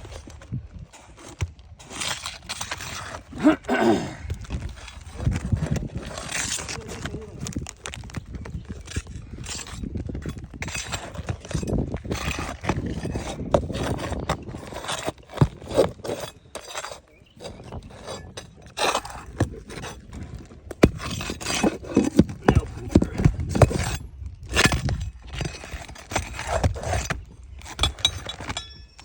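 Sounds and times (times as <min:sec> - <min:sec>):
hand tools scraping roof shingles: 0:00.0 - 0:29.0.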